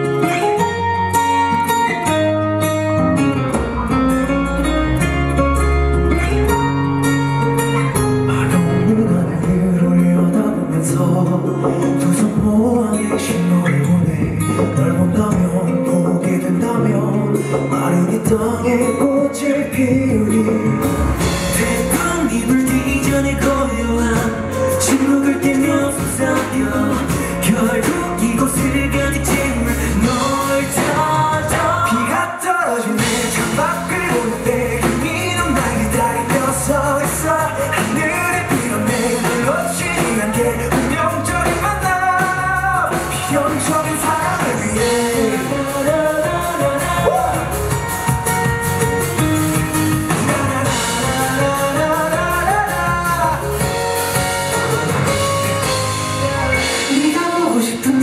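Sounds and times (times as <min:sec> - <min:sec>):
bass and drums: 0:00.0 - 0:58.0
keyboard: 0:00.0 - 0:58.0
man singing: 0:06.0 - 0:48.6, 0:49.2 - 0:58.0.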